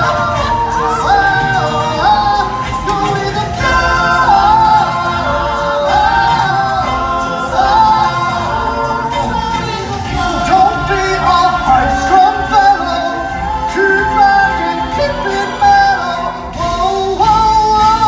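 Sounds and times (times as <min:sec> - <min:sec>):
recorded backing music: 0:00.0 - 0:18.0
voices singing show tune: 0:00.0 - 0:18.0.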